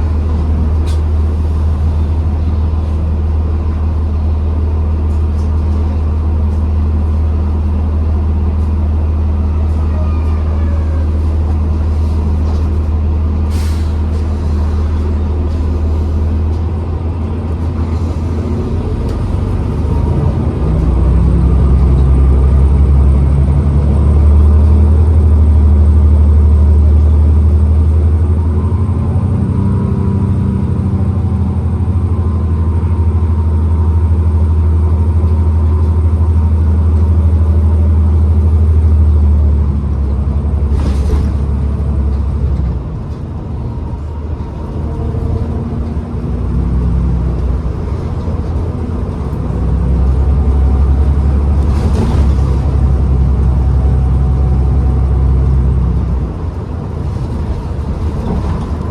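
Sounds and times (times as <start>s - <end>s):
bus engine rumble: 0.0s - 58.9s.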